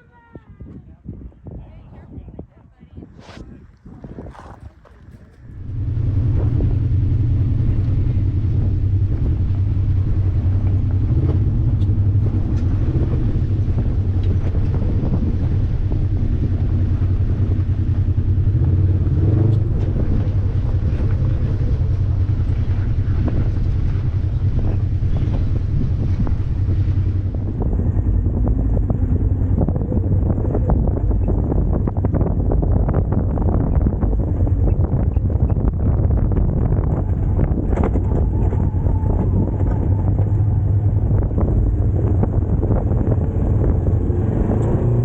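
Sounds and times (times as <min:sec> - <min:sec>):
off-road vehicle engine droning: 0:03.2 - 0:45.0.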